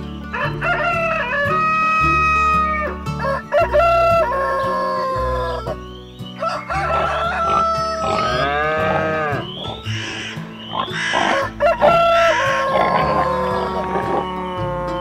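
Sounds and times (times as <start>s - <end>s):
background music with bass: 0.0s - 15.0s
rooster crowing: 0.3s - 15.0s.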